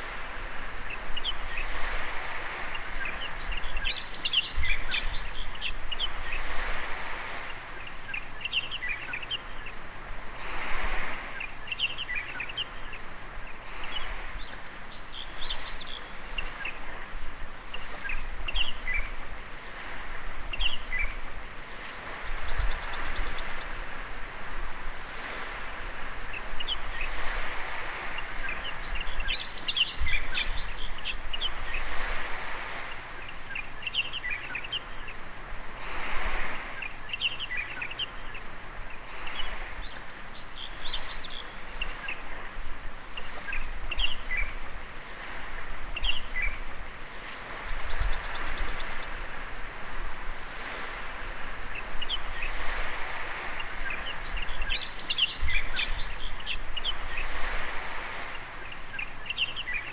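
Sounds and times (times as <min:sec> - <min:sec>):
small birds chirping: 0:00.0 - 0:10.2, 0:10.9 - 0:24.4, 0:25.1 - 0:49.7, 0:50.4 - 0:59.9
waves washing onto beach: 0:00.0 - 0:59.9.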